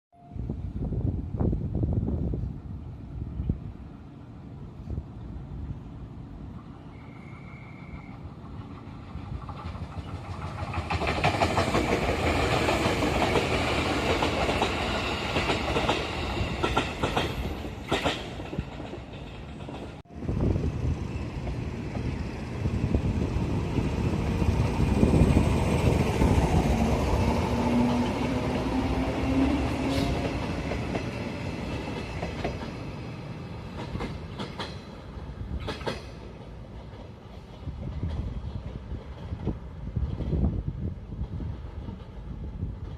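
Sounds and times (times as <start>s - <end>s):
train passing with low rumble: 0.2s - 42.9s
train wheels clattering on rails: 7.2s - 20.1s, 21.2s - 42.9s.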